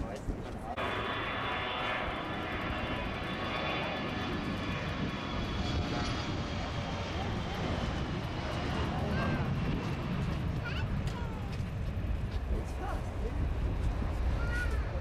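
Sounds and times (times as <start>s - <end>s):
jet engines whining at takeoff: 0.0s - 15.0s.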